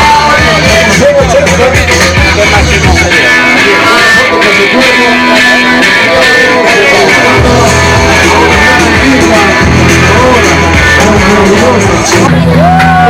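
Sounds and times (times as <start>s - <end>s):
amplified dance music with guitar: 0.0s - 13.0s.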